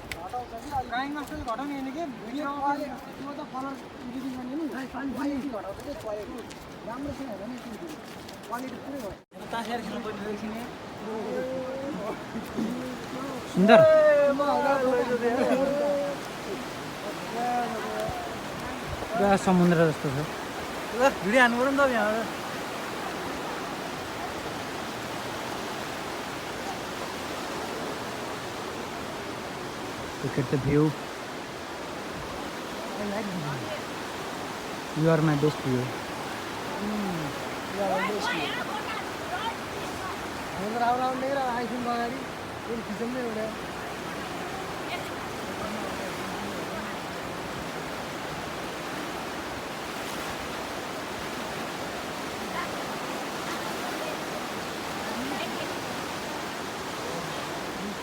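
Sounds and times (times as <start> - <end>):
river rushing in flood: 0.0 - 58.0.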